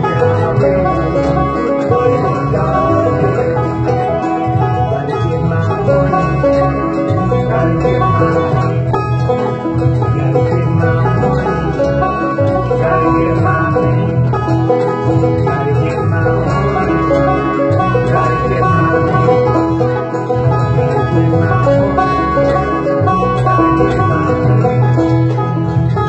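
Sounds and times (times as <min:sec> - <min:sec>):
band backing with bass line: 0:00.0 - 0:26.0
banjo fingerpicking: 0:00.0 - 0:26.0.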